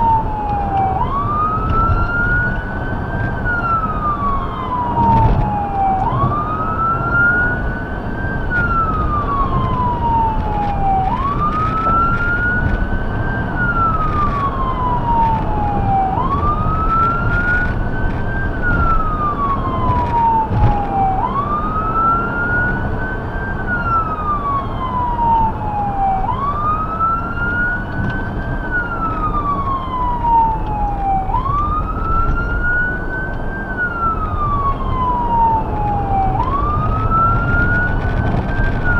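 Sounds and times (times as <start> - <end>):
road and engine rumble: 0.0 - 38.9
siren wailing: 0.0 - 38.9.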